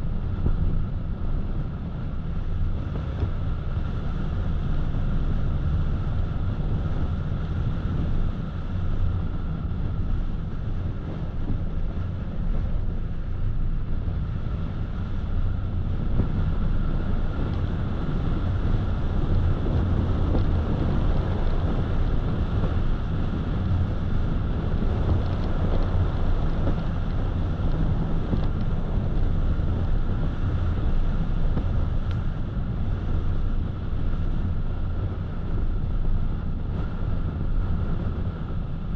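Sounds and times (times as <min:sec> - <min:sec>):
tyres rumbling on road: 0:00.0 - 0:38.9
wind noise: 0:00.0 - 0:38.9.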